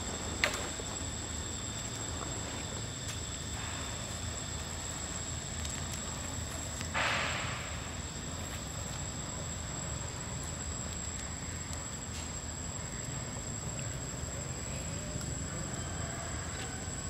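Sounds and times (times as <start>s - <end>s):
high-pitched insect whine: 0.0s - 17.0s.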